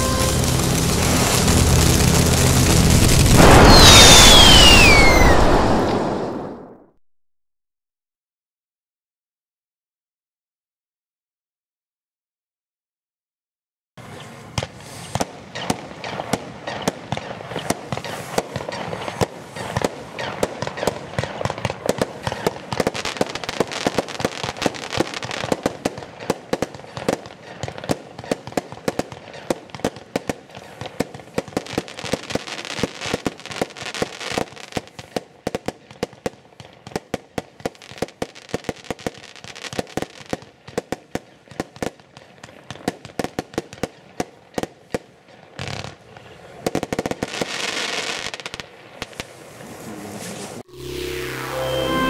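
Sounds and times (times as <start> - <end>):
firework bangs: 0.0 - 6.8, 14.0 - 50.7
firework crackling pops: 0.0 - 6.8, 14.0 - 50.7.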